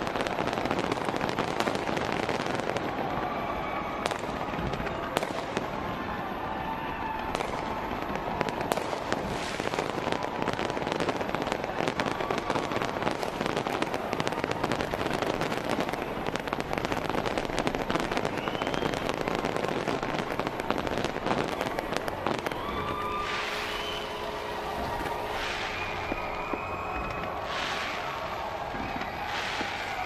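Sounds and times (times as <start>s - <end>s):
fireworks crackling and banging: 0.0s - 30.0s.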